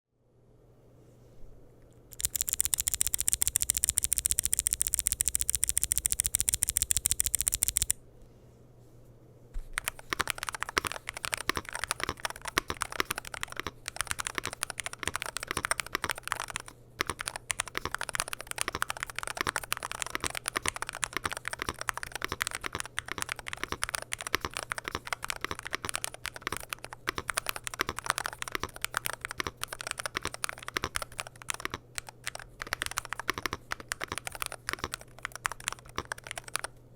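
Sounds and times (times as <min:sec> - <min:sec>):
faint low hum: 0:00.2 - 0:36.9
keyboard typing: 0:02.1 - 0:08.0, 0:09.7 - 0:36.8.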